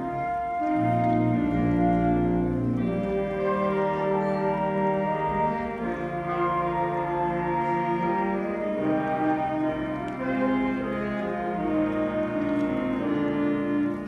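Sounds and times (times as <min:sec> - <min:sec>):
band playing held chords: 0:00.0 - 0:14.0.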